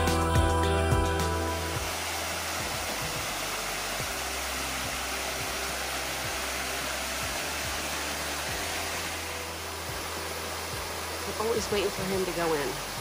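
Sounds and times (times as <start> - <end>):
small waterfall rushing over rocks: 1.6 - 13.0.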